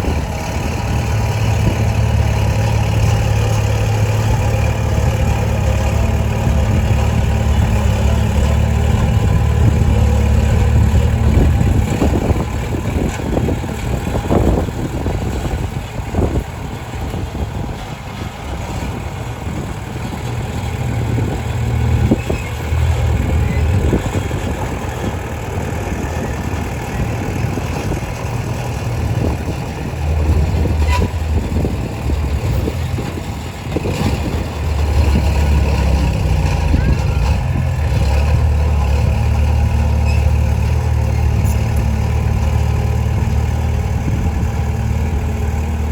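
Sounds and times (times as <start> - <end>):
bulldozer diesel engine droning: 0.0 - 45.9.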